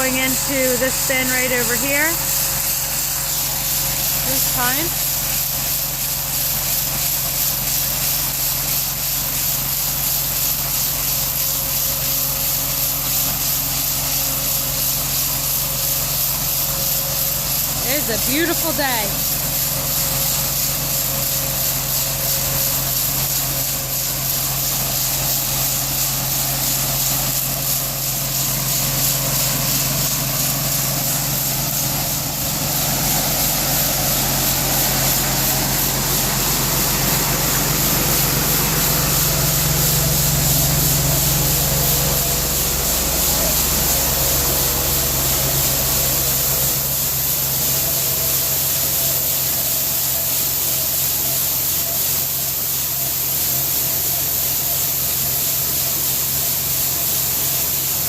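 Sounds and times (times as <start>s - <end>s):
constant hiss: 0.0s - 6.0s, 16.8s - 58.0s
grain machinery humming: 0.0s - 58.0s.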